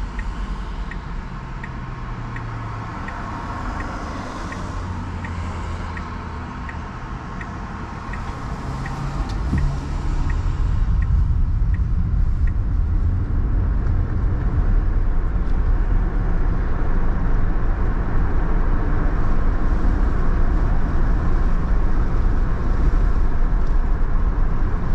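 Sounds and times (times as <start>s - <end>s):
car road and engine noise: 0.0s - 24.9s
turn signal ticking: 0.0s - 24.9s.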